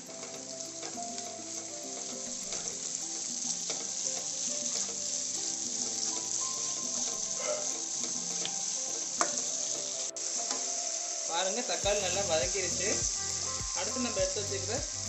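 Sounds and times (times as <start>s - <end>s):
onions sizzling in hot oil: 0.0s - 15.0s
soft instrumental tune: 0.0s - 15.0s.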